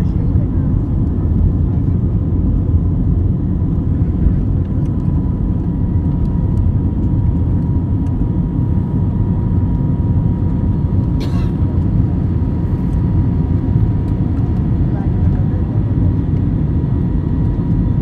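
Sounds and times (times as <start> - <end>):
jet engines rumbling in cabin: 0.0 - 18.0.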